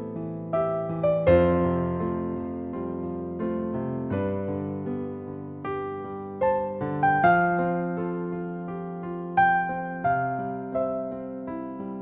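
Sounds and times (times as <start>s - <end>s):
piano playing slow notes: 0.0s - 12.0s.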